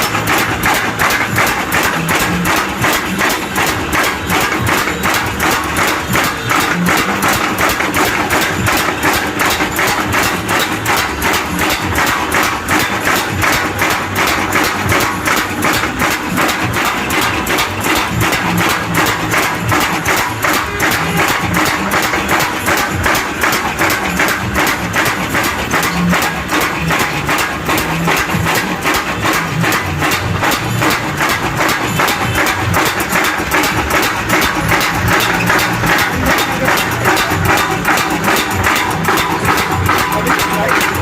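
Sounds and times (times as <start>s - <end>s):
power hammer striking: 0.0s - 41.0s.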